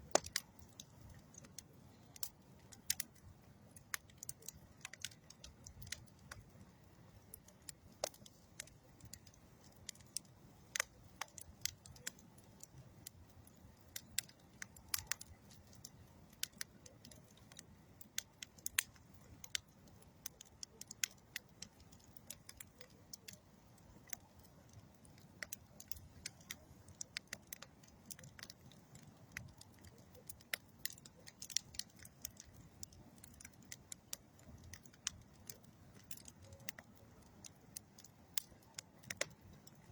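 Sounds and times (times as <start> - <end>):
campfire pops and snaps: 0.0 - 39.9
low rumble of flames: 0.0 - 39.9.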